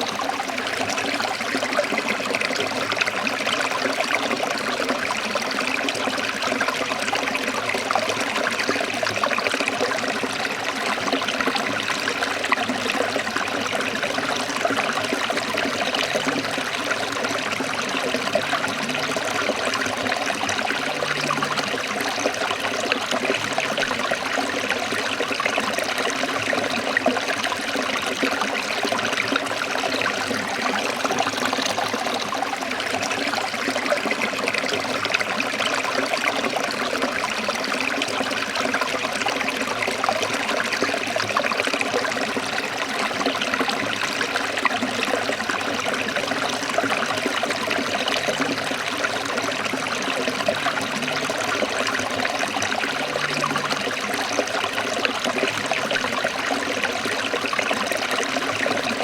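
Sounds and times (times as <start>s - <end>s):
stream splashing over rocks: 0.0s - 59.0s.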